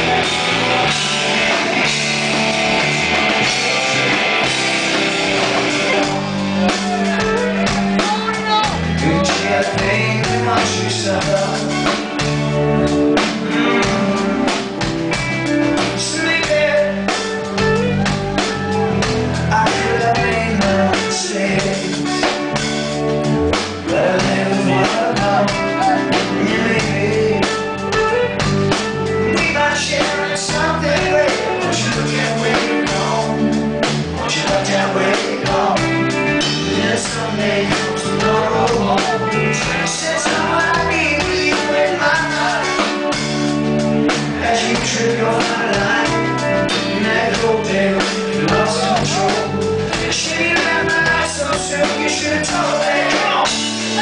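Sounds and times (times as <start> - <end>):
drum kit: 0.0 - 54.0
electric guitar: 0.0 - 54.0
man singing: 3.3 - 22.6, 23.5 - 43.4, 44.1 - 54.0.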